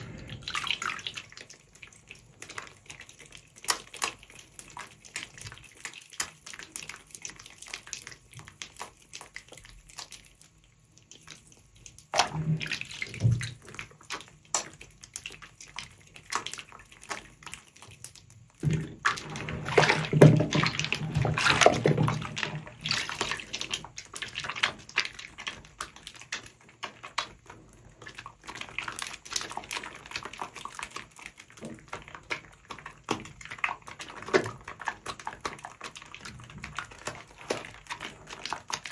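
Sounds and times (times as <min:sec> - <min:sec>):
sponge squelching in water: 0:00.0 - 0:38.9.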